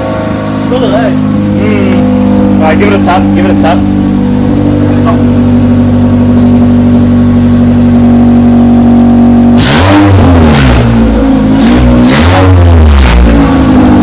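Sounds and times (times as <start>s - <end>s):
car engine idling loudly: 0.0s - 14.0s
engine throttle blips: 0.0s - 14.0s.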